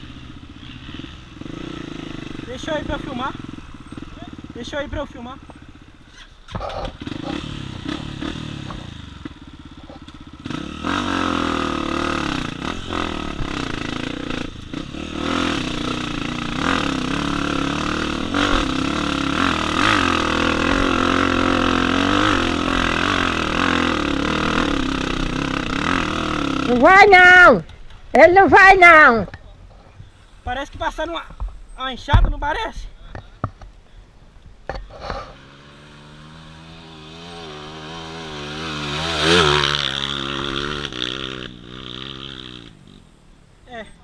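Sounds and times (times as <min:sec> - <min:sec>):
dirt bike engine revving: 0:00.0 - 0:27.6, 0:34.8 - 0:43.2.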